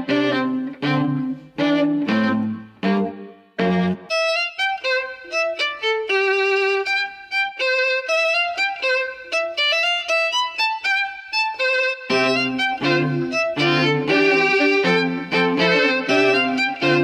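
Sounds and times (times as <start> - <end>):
solo violin melody: 0.0 - 17.0.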